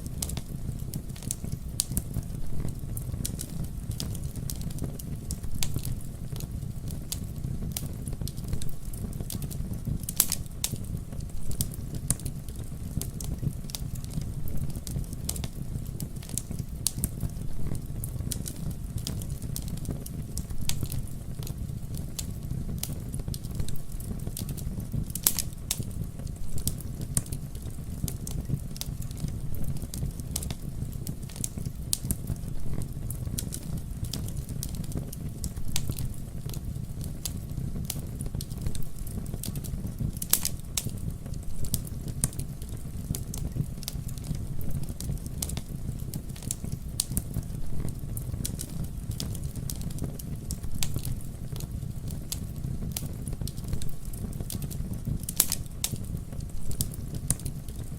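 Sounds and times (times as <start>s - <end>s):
campfire crackling: 0.0s - 57.9s
low rumble of flames: 0.0s - 57.9s
sharp fire pops: 0.0s - 57.9s.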